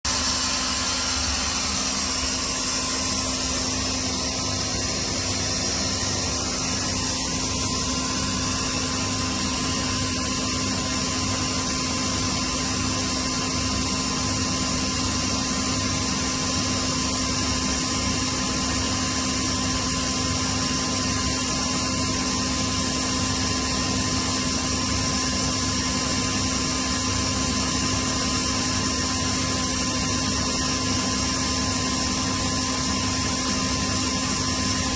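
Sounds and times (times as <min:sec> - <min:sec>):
air compressor running: 0:00.0 - 0:34.9.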